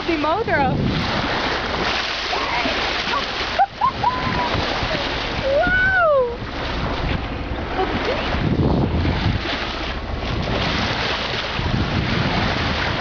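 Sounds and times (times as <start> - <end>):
sea water washing around boat: 0.0 - 13.0
wind buffeting microphone: 0.0 - 13.0.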